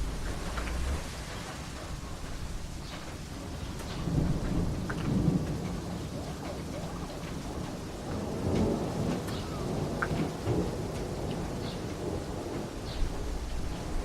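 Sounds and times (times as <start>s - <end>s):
low rolling thunder: 0.0s - 14.0s
steady rain: 0.0s - 14.0s.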